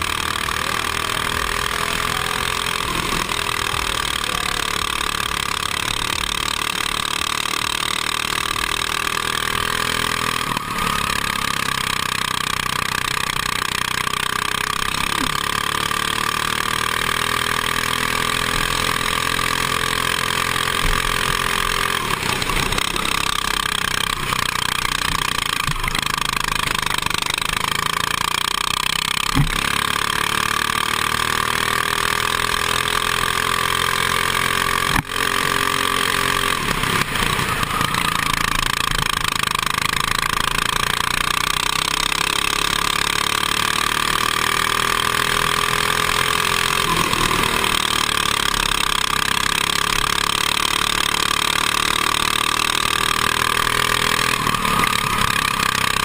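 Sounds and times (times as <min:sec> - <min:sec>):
go-kart engine at racing speed: 0:00.0 - 0:56.0.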